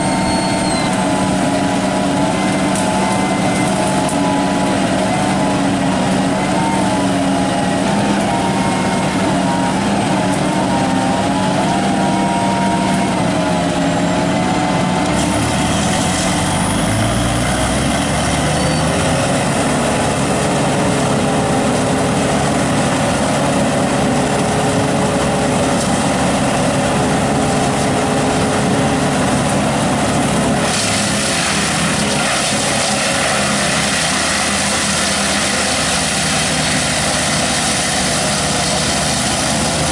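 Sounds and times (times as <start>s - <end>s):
tree-removal machine engine running: 0.0s - 39.9s.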